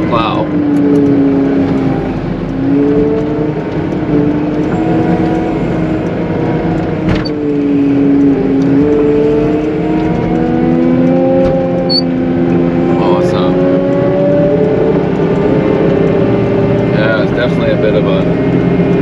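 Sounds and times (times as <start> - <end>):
loader diesel engine under load: 0.0 - 19.0.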